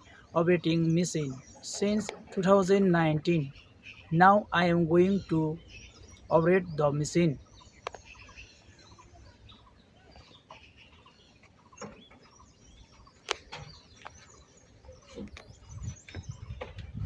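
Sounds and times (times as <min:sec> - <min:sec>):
bird chirps and clucking: 0:00.0 - 0:17.0.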